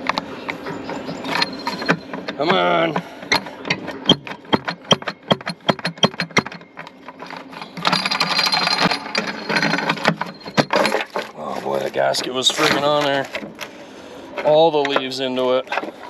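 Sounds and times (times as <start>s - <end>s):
metal scraping: 0.0s - 13.6s.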